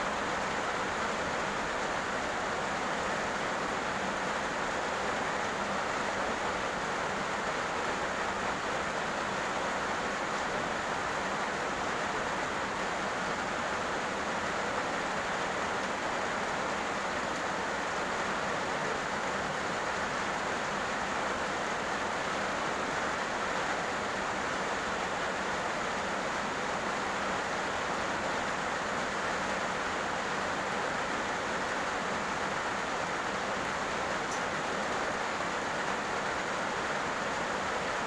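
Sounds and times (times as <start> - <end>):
heavy rain on a road: 0.0 - 38.0.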